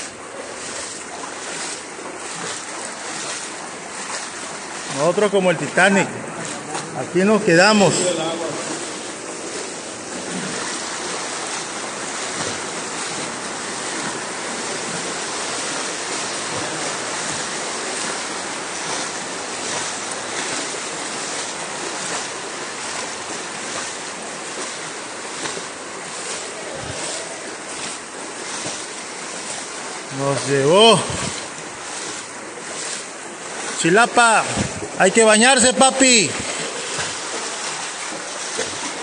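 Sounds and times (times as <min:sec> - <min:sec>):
floodwater rushing: 0:00.0 - 0:39.0
heavy rain: 0:00.0 - 0:39.0.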